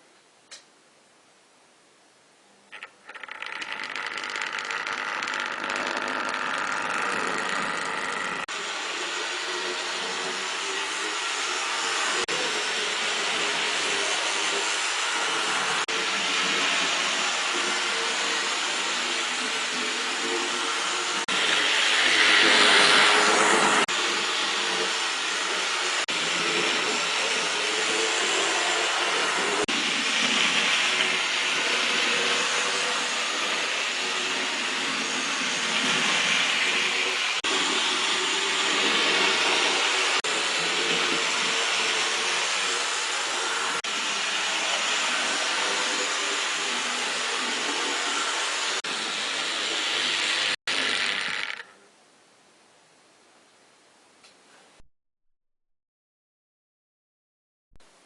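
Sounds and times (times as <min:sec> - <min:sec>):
model train motor whirring: 0:02.7 - 0:51.7.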